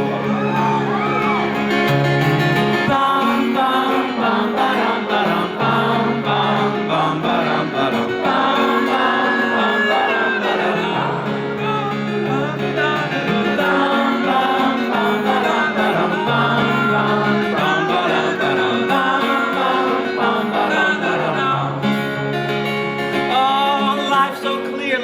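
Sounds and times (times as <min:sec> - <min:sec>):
acoustic band with guitar: 0:00.0 - 0:25.0.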